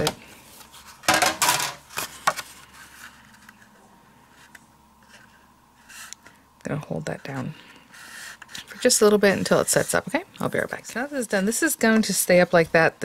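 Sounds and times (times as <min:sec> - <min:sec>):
faint handling noise: 0:00.0 - 0:12.8.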